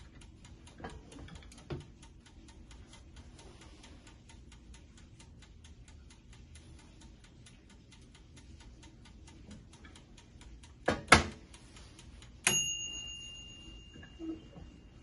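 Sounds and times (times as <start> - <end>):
rapid even ticking: 0.0 - 12.5.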